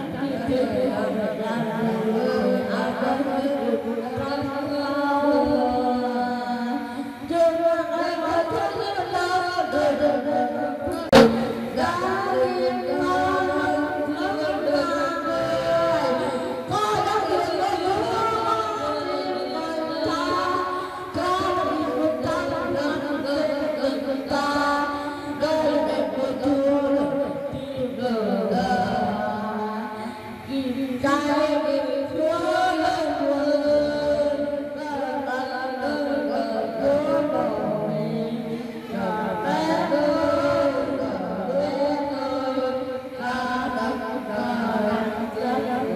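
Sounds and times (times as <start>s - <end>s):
voices singing into microphones: 0.0s - 45.9s.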